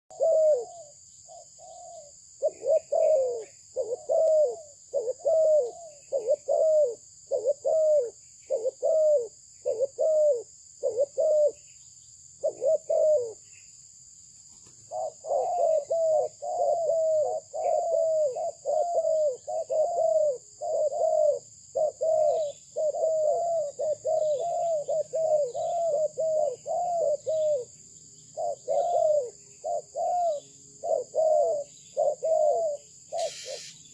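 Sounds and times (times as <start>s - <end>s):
dove cooing: 0.1s - 11.6s, 12.4s - 13.5s, 14.6s - 33.7s.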